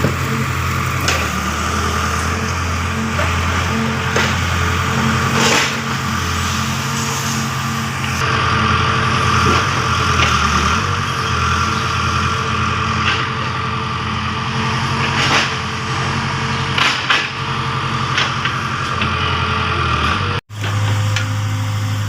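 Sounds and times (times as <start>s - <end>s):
motor running steadily: 0.0s - 22.0s.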